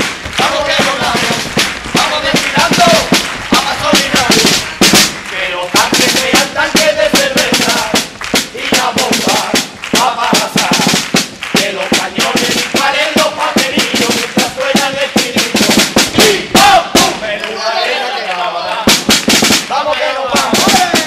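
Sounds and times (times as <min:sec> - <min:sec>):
tune over drum: 0:00.0 - 0:17.3
marching snare drum: 0:00.0 - 0:17.5, 0:18.8 - 0:21.0.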